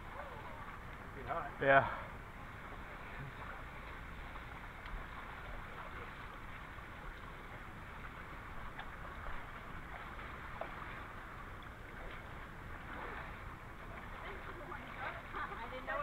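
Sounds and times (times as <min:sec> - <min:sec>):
creek rushing: 0:00.0 - 0:16.0
water splashing around wading feet: 0:02.2 - 0:16.0.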